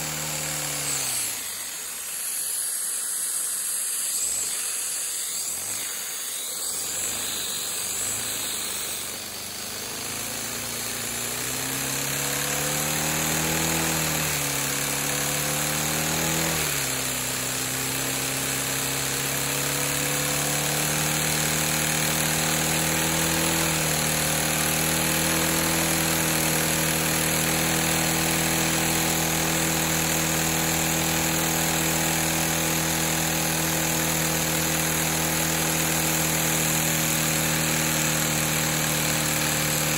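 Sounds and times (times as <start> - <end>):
toy engine buzzing hum: 0.0 - 39.9.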